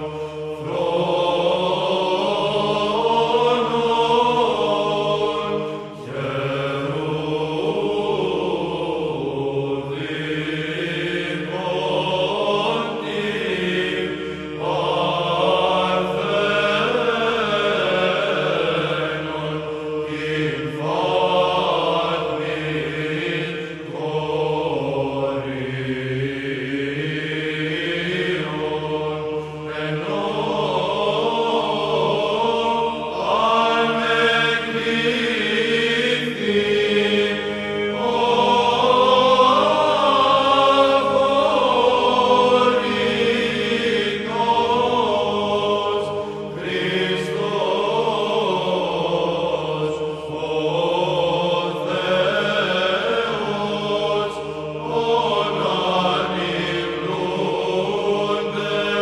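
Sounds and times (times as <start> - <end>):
choir chanting melody: 0.0 - 59.0.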